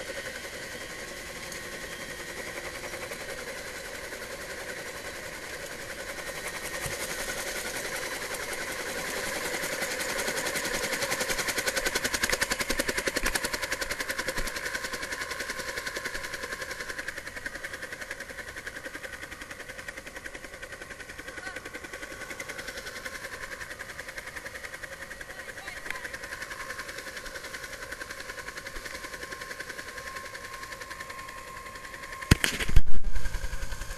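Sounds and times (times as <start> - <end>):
helicopter rotor chopping: 0.0 - 33.9
turbine whine: 0.0 - 33.9.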